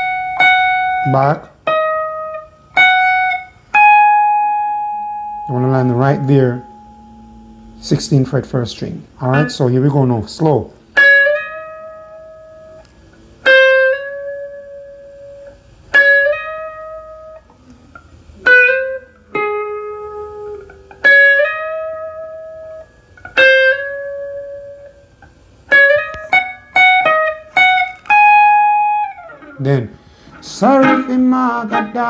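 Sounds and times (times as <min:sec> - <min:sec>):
electric guitar lead line: 0:00.0 - 0:32.0.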